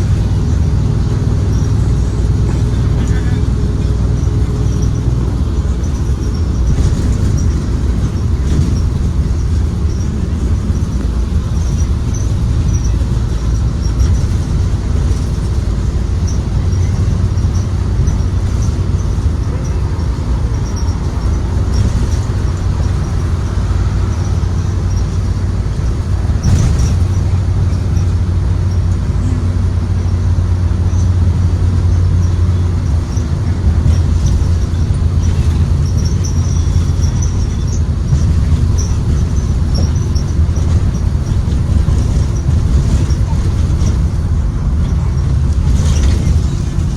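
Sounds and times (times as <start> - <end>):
body rattles and knocks: 0.0 - 46.9
bus engine droning: 0.0 - 46.9
road rumble: 0.0 - 46.9.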